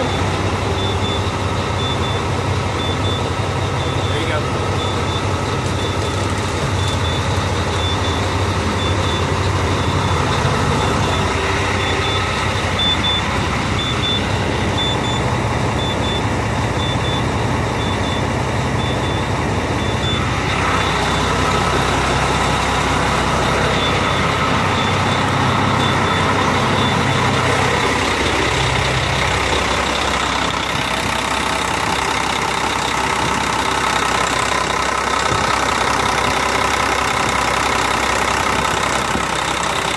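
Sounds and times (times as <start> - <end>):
short high warning beeps: 0.0 - 34.6
diesel truck engine idling: 0.0 - 39.9.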